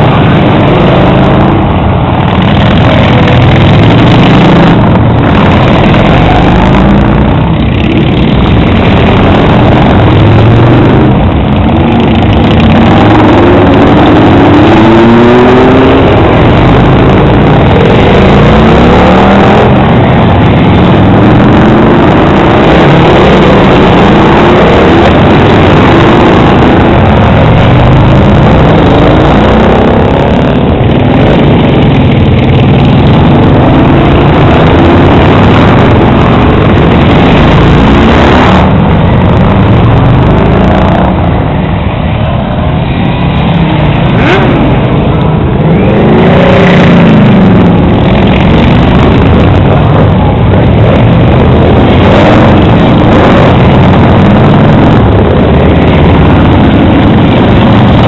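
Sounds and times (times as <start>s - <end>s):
motorcycles revving past: 0.0s - 58.0s.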